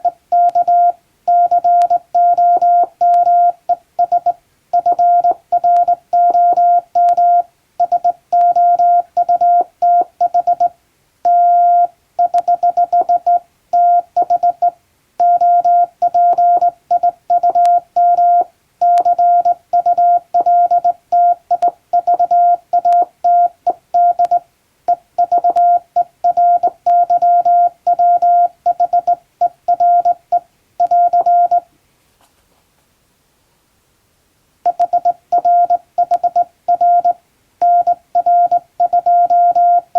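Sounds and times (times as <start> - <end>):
morse code beeps: 0.0 - 10.7, 11.3 - 31.6, 34.7 - 39.9.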